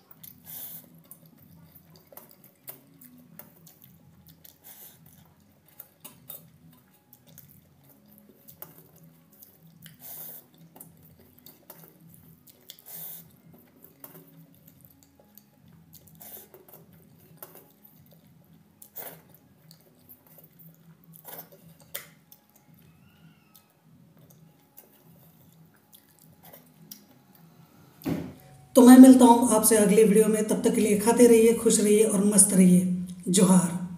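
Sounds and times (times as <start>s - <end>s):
quiet chewing: 0.0s - 28.5s.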